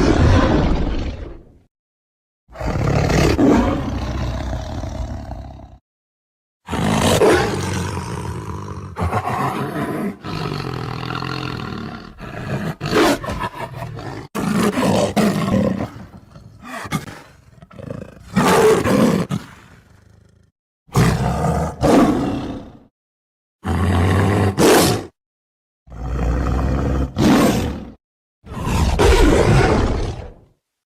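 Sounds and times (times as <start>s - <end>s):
lion roaring and grunting: 2.5s - 5.8s, 6.7s - 22.9s, 23.6s - 25.1s, 25.9s - 30.4s.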